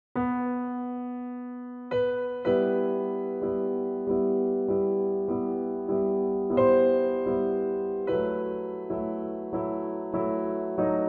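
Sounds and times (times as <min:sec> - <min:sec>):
soft piano chords: 0:00.2 - 0:11.0.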